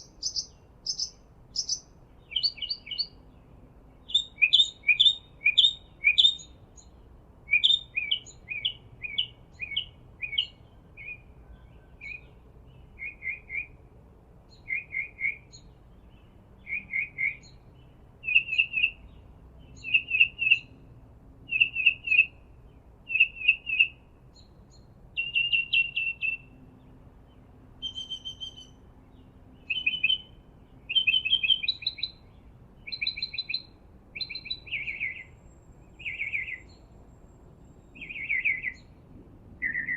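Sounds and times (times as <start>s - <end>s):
small bird chirping: 0.0s - 13.8s, 14.5s - 20.8s, 21.5s - 37.0s, 37.6s - 39.0s, 39.6s - 39.9s.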